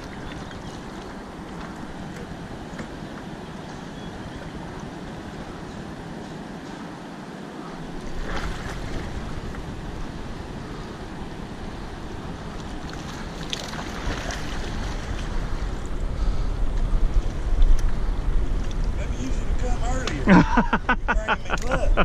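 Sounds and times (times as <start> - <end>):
rushing water: 0.0 - 21.8
wind on microphone: 0.0 - 22.0.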